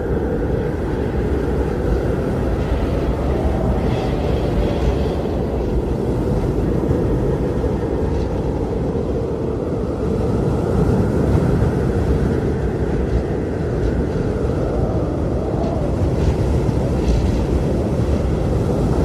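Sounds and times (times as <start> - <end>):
blizzard wind howling: 0.0 - 19.0.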